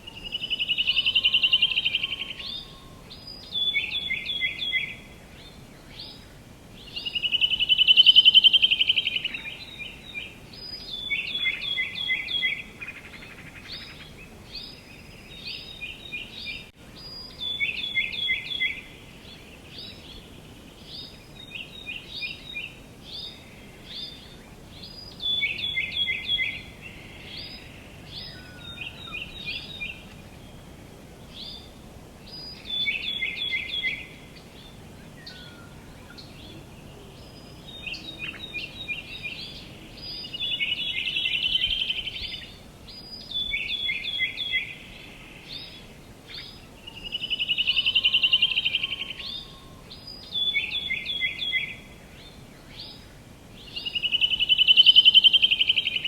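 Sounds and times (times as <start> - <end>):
faint outdoor background: 0.0 - 56.0
songbird trill: 0.0 - 56.0.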